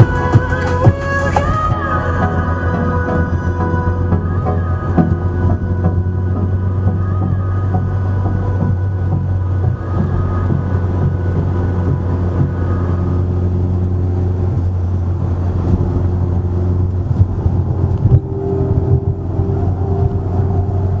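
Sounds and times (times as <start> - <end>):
car engine and road drone: 0.0 - 21.0.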